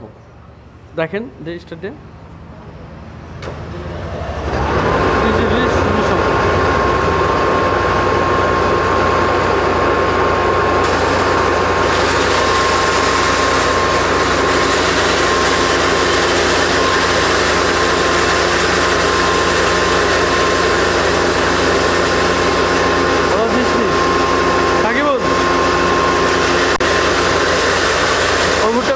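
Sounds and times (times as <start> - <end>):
grain mill motor humming: 4.1 - 28.9.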